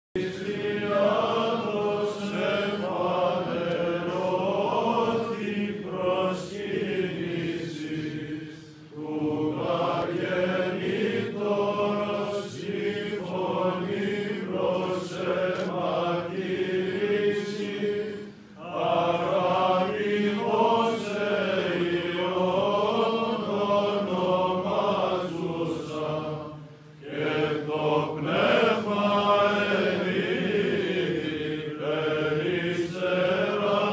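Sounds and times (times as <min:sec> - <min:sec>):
monks chanting over a drone: 0:00.2 - 0:33.9.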